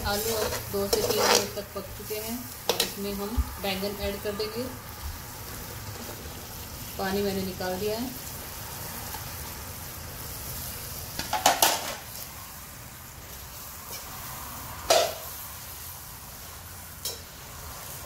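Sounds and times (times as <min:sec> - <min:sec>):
vegetables sizzling in a pan: 0:00.0 - 0:18.0.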